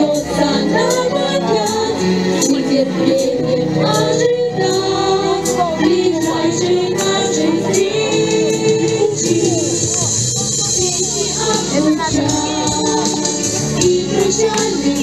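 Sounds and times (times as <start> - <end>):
girl singing into microphone: 0.0 - 9.8, 10.6 - 15.0
backing music with steady beat: 0.0 - 15.0.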